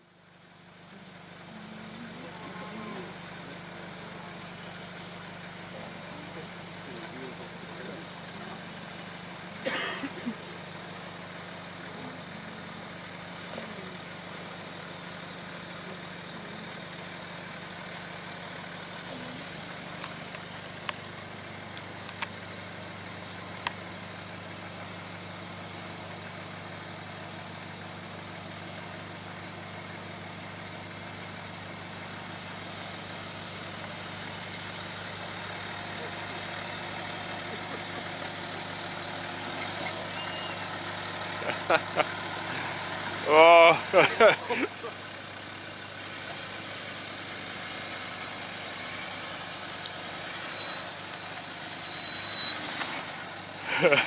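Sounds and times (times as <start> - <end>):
vehicle engine at low revs: 0.0 - 54.0.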